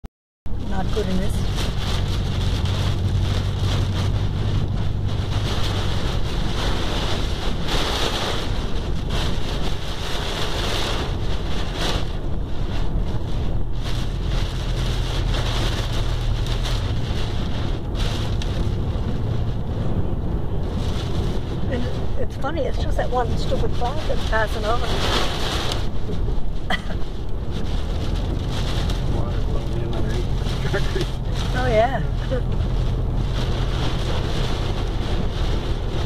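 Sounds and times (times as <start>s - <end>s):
low road drone: 0.5s - 36.0s
rain beating on windshield: 0.5s - 36.0s
tyres on wet road: 0.5s - 36.0s.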